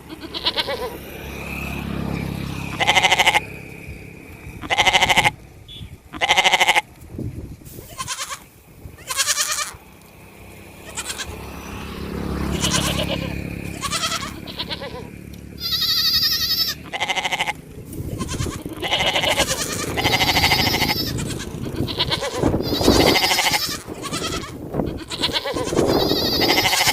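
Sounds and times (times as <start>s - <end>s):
goats bleating: 0.0s - 1.4s, 2.0s - 3.5s, 4.6s - 5.4s, 6.1s - 7.0s, 7.8s - 9.8s, 10.7s - 11.4s, 12.3s - 26.9s.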